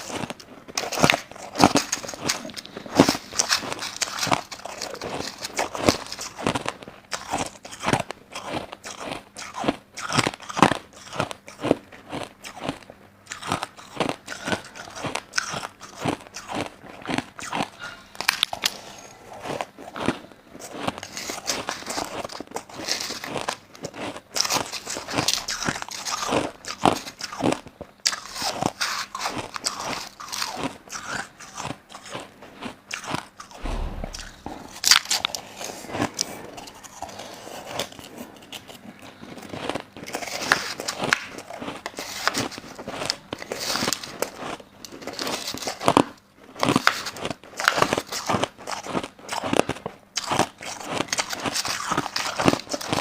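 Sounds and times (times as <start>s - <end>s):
crunching ice being chewed: 0.0s - 33.6s, 34.9s - 53.0s.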